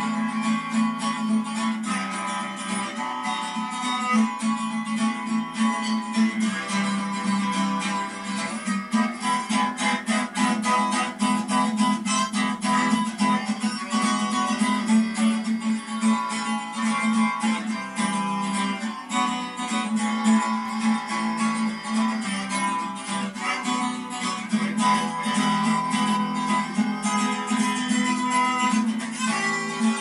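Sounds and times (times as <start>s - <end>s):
acoustic guitar strumming: 0.0s - 30.0s
harmonica playing chords: 0.0s - 30.0s.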